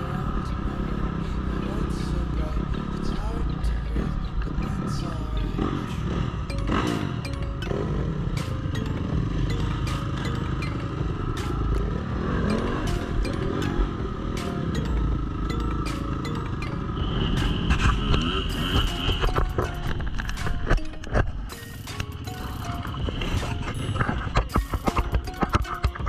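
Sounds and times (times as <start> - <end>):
dirt bike engines revving: 0.0 - 24.9.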